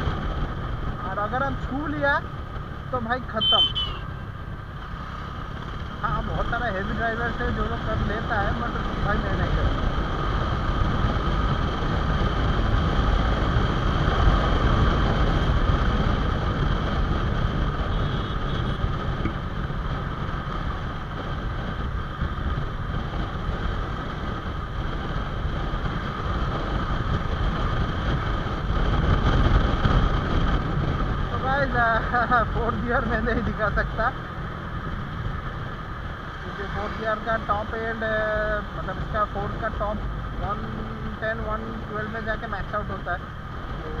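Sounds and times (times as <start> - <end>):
wind rush on microphone: 0.0 - 44.0.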